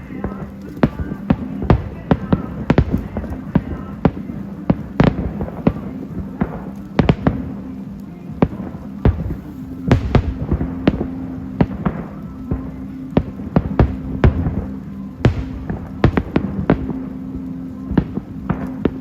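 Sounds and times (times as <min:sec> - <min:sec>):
fireworks bangs: 0:00.0 - 0:19.0
steady low hum: 0:00.0 - 0:19.0.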